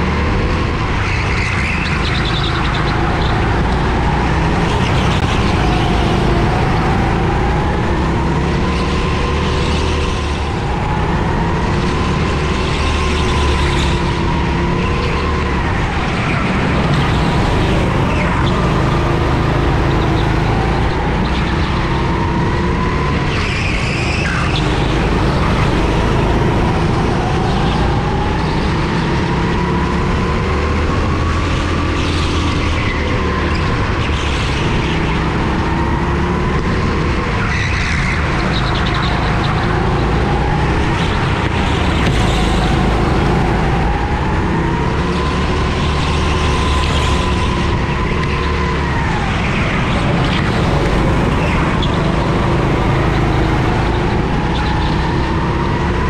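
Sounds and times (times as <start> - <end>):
racing kart engine revving: 0.0 - 56.0.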